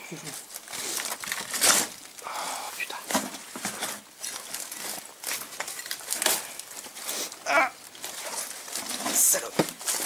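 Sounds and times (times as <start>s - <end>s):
branches rustling and scraping: 0.0s - 10.0s
footsteps crunching through brambles: 0.0s - 10.0s.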